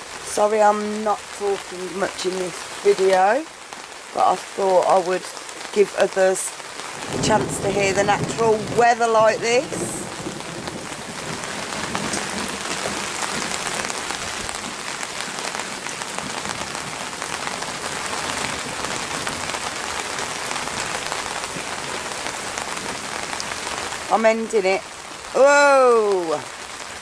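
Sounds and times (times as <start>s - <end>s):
rain falling: 0.0s - 27.0s
raindrops ticking: 0.0s - 27.0s.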